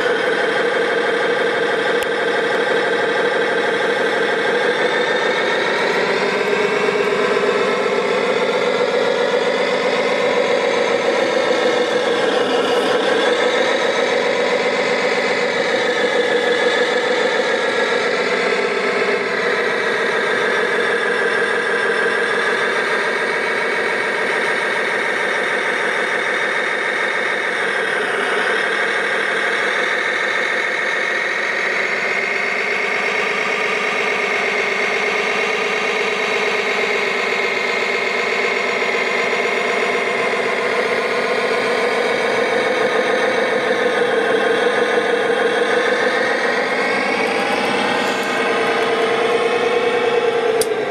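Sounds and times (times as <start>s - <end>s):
model dozer engine running: 0.0s - 50.9s.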